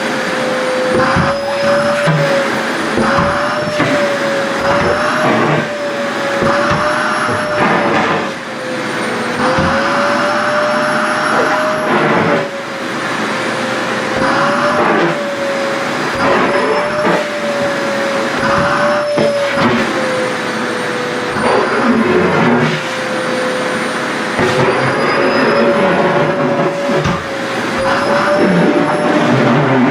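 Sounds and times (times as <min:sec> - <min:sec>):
vacuum cleaner whining: 0:00.0 - 0:29.9.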